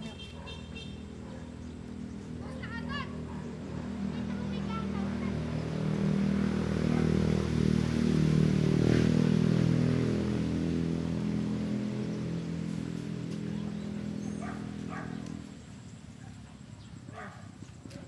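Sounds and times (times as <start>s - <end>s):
small engine running: 1.2s - 16.3s.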